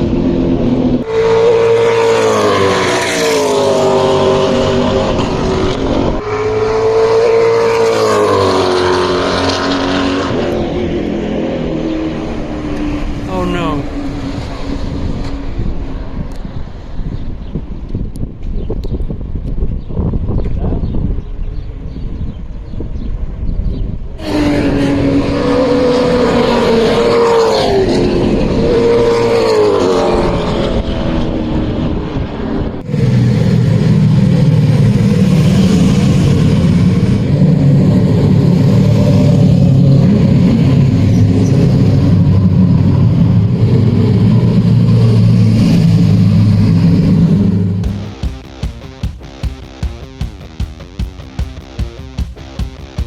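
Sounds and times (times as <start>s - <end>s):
racing car engine revving: 0.0s - 16.9s, 24.2s - 32.0s, 32.8s - 53.0s.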